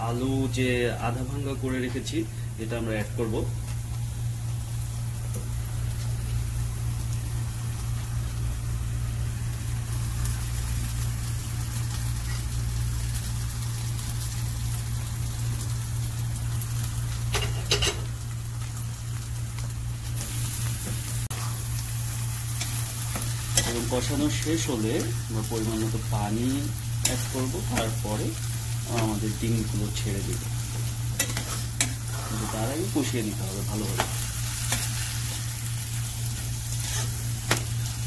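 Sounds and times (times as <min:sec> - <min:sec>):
food sizzling in oil: 0:00.0 - 0:38.0
steady low hum: 0:00.0 - 0:38.0.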